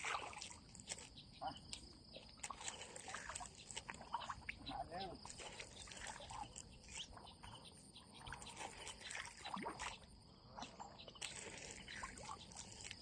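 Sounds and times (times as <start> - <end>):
pond water splashing: 0.0 - 13.0.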